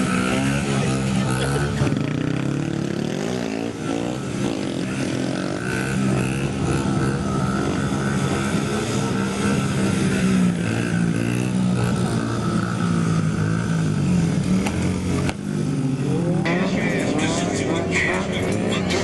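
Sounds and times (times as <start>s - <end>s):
mini-bike engine revving: 0.0s - 19.0s.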